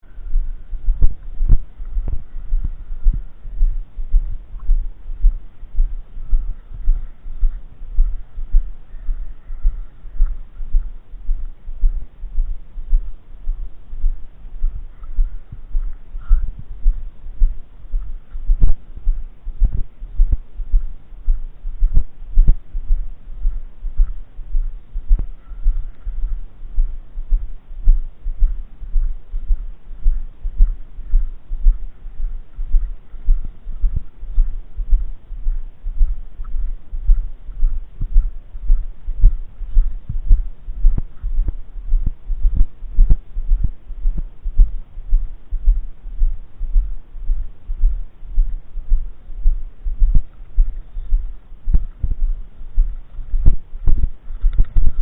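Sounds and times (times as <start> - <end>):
faint steady high tone: 0.0 - 44.1, 44.7 - 55.0
low dull thumping: 0.2 - 55.0.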